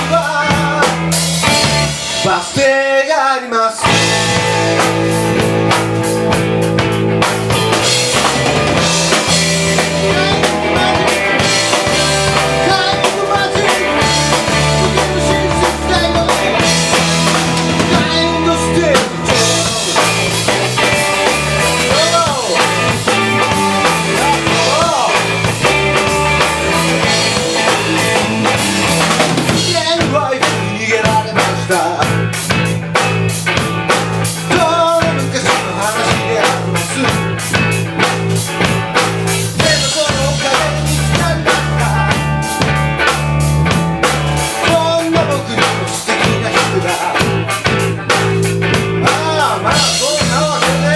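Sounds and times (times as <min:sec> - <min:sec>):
bending lead guitar notes: 0:00.0 - 0:02.4, 0:03.8 - 0:50.9
drum kit beat: 0:00.0 - 0:02.8, 0:03.8 - 0:50.9
bass line: 0:00.0 - 0:03.0, 0:03.8 - 0:50.9
live rock band playing: 0:00.0 - 0:50.9.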